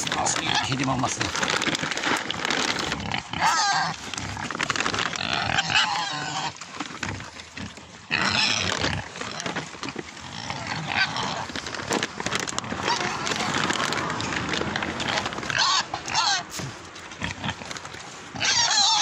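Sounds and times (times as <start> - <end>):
boars squealing and grunting: 0.0 - 12.0, 12.6 - 19.0
animals crunching and snuffling: 0.0 - 19.0.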